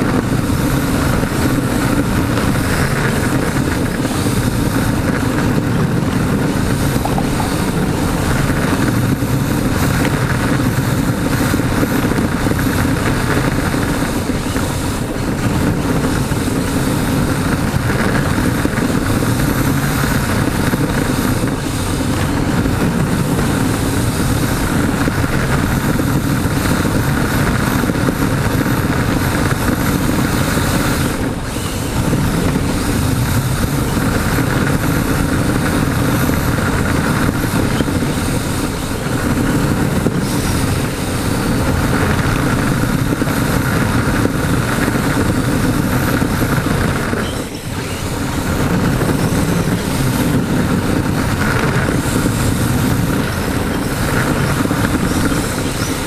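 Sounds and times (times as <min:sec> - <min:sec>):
rc car rushing rumble: 0:00.0 - 0:56.0.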